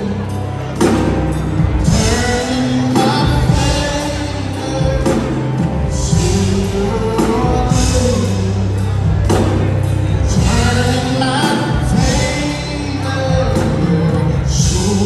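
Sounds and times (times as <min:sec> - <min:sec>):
drum kit: 0:00.0 - 0:15.0
guitar: 0:00.0 - 0:15.0
steady bass line: 0:00.0 - 0:15.0
singers with lead vocalist: 0:01.8 - 0:09.2, 0:10.2 - 0:15.0.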